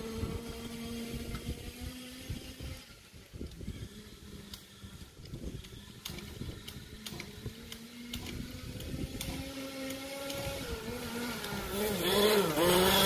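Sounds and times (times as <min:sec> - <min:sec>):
rc car engine running: 0:00.0 - 0:13.0.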